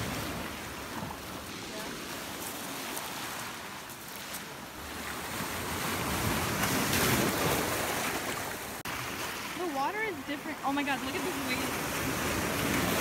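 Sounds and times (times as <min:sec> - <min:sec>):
sea surf washing over rocks: 0:00.0 - 0:13.0.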